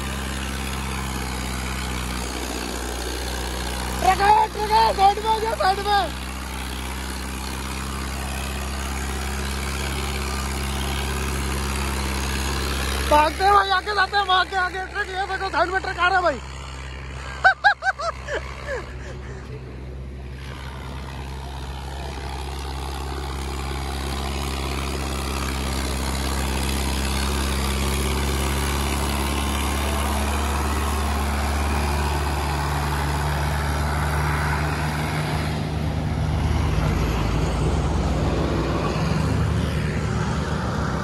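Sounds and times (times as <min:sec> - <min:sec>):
lorry passing: 0:00.0 - 0:41.0
tractor diesel engine pulling: 0:00.0 - 0:41.0.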